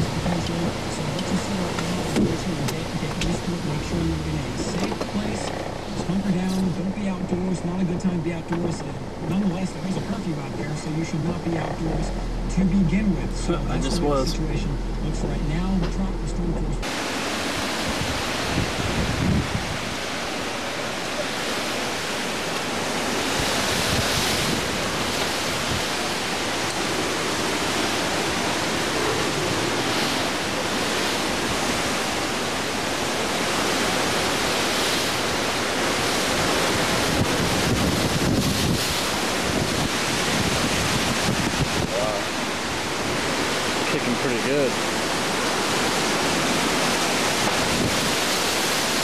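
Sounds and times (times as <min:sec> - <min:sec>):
driving rain: 0:00.0 - 0:49.0
strong wind: 0:00.0 - 0:49.0
wind buffeting microphone: 0:00.0 - 0:49.0.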